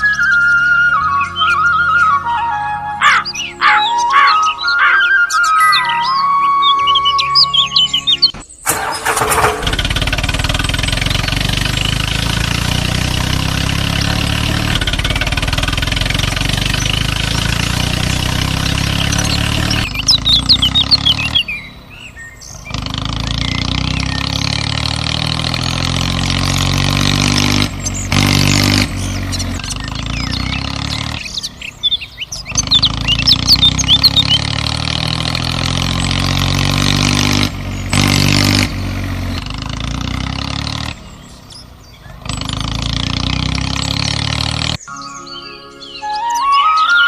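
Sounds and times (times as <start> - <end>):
birds chirping: 0.0 - 47.0
engine running: 0.0 - 47.0.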